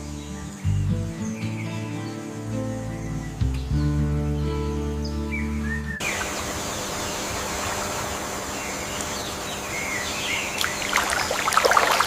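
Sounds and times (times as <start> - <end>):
steady background hiss: 0.0 - 3.8, 6.0 - 12.0
bird chirps: 0.0 - 12.0.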